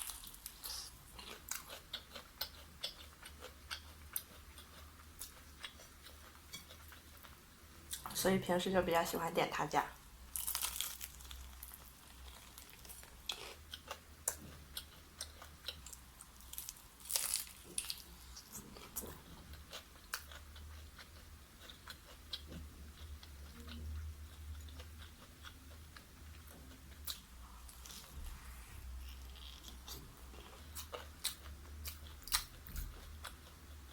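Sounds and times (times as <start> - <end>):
crunchy chewing: 0.0 - 8.0, 10.3 - 28.2, 28.8 - 33.9.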